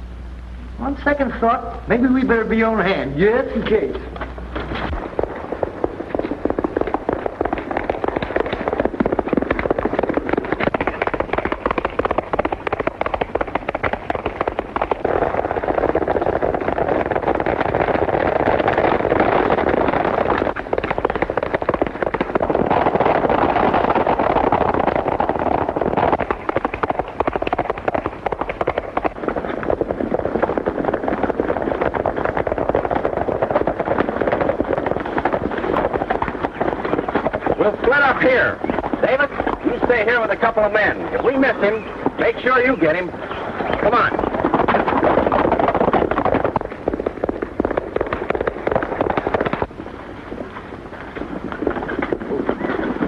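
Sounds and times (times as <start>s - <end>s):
horses galloping hoofbeats: 0.7s - 53.0s.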